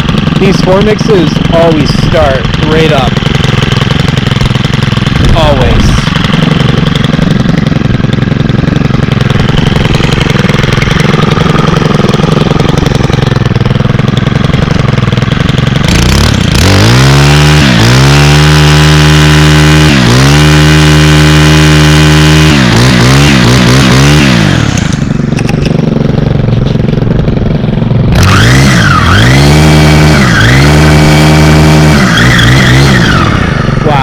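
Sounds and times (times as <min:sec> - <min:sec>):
small engine idling and revving: 0:00.0 - 0:34.0.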